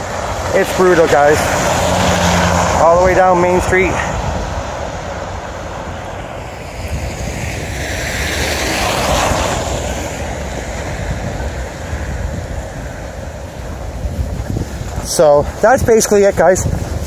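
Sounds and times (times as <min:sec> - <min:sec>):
car tyres hissing through slush: 0:00.0 - 0:17.0
wind buffeting microphone: 0:00.0 - 0:17.0.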